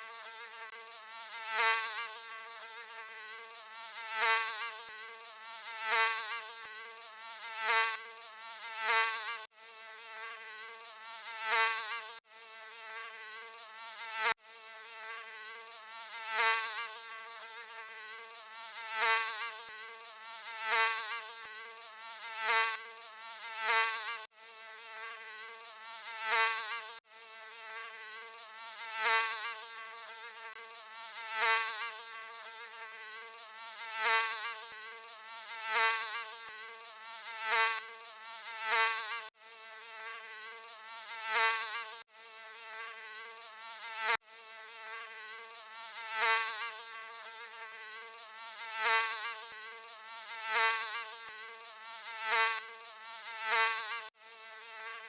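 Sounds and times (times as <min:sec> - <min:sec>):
mosquito buzzing: 0:00.0 - 0:55.0.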